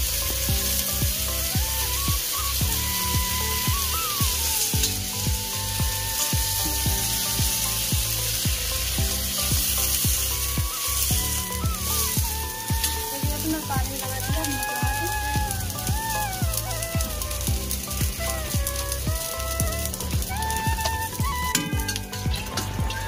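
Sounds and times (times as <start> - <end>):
background music with drum beat: 0.0 - 23.0
potatoes sizzling in hot oil: 0.0 - 23.0.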